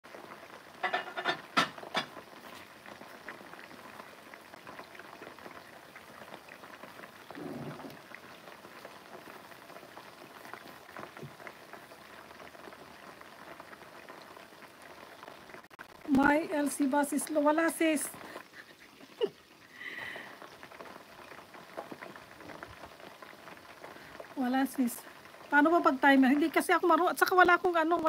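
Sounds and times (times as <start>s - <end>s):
chicken deep-frying in oil: 0.1s - 28.0s.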